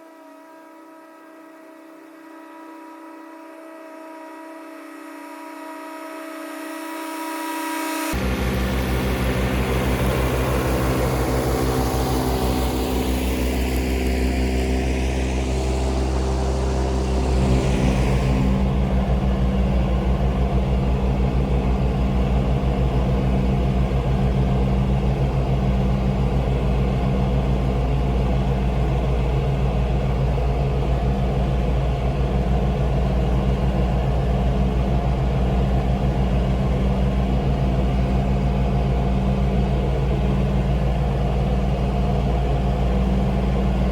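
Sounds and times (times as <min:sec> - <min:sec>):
tractor engine droning: 0:08.2 - 0:43.9.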